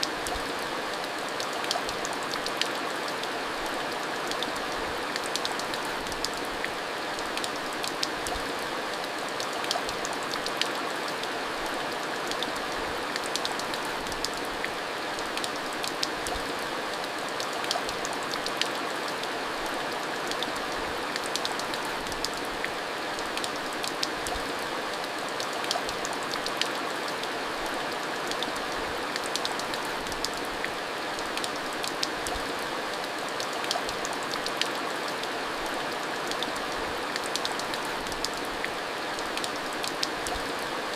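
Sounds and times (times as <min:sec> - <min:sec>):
rain drops ticking: 0:00.0 - 0:40.9
steady rain falling: 0:00.0 - 0:40.9.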